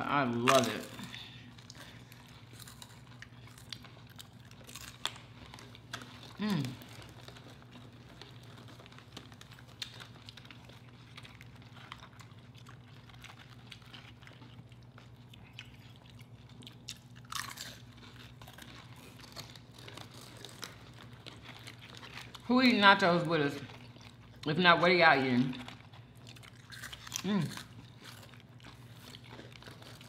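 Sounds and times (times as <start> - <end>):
chewing and crunching chips: 0.0 - 30.0.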